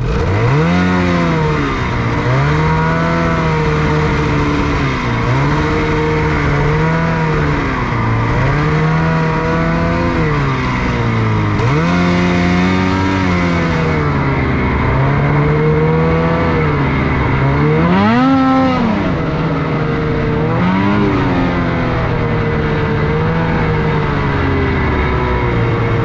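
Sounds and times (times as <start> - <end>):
snowmobile engine revving: 0.0 - 26.0
steady rushing noise: 0.0 - 26.0.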